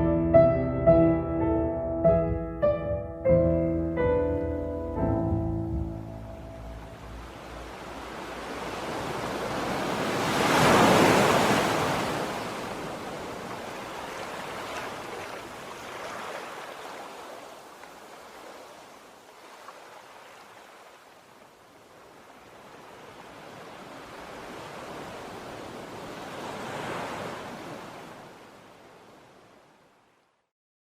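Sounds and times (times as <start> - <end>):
ocean waves washing in: 3.8 - 30.4.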